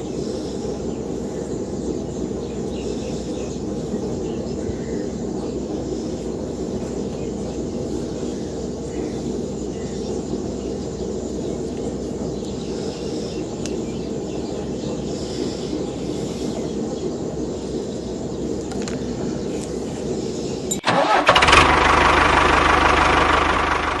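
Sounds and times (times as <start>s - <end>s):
engine running steadily: 0.0s - 24.0s
louder rougher engine noise: 0.0s - 24.0s.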